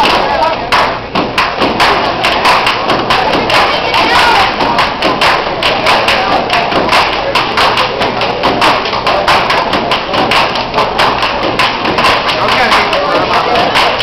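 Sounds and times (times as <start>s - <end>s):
loud percussive thumps and taps: 0.0s - 14.0s.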